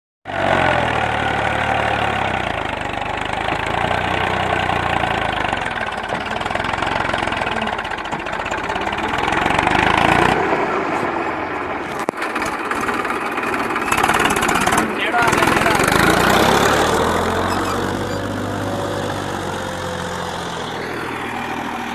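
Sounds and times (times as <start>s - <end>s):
tractor engine running: 0.3s - 21.9s.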